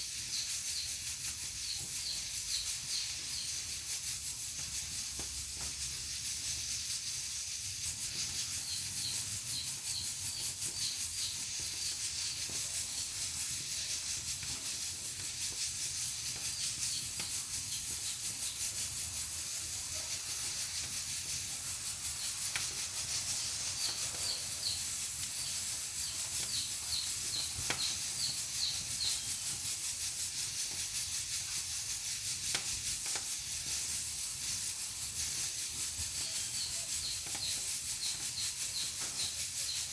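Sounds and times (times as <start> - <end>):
pressure cooker hissing steam: 0.0 - 39.9.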